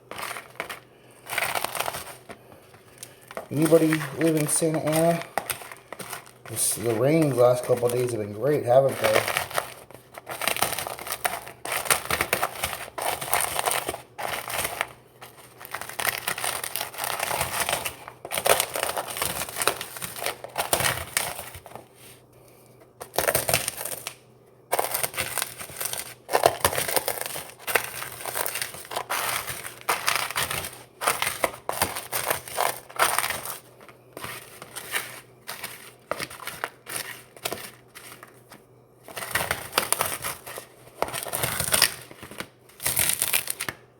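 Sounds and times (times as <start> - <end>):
crunchy snacks being crushed: 0.0 - 21.8, 23.0 - 43.9.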